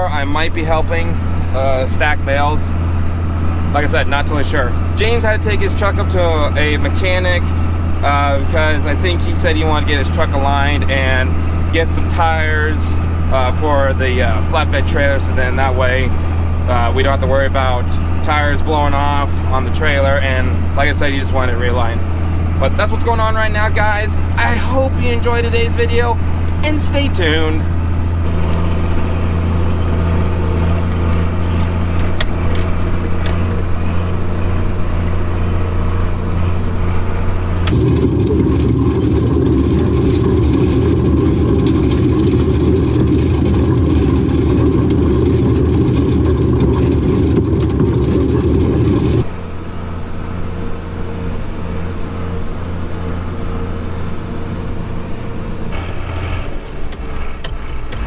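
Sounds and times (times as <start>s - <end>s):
loud rough rumble: 0.0s - 58.0s
tractor engine running: 0.0s - 58.0s.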